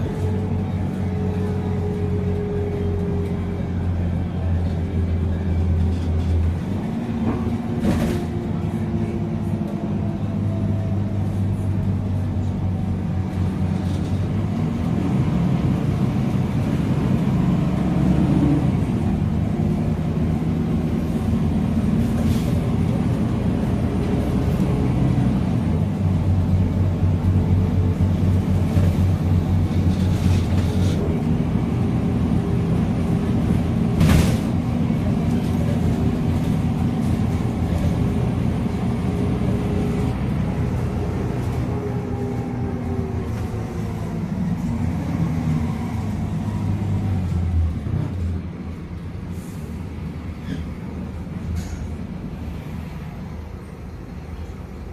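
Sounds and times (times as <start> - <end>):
bus diesel engine: 0.0 - 54.9
road noise: 0.0 - 54.9.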